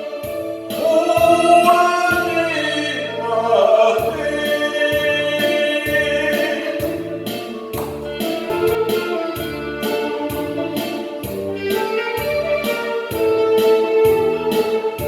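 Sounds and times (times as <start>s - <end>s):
sung notes with band: 0.0s - 15.0s
stepping bass line: 0.2s - 14.8s.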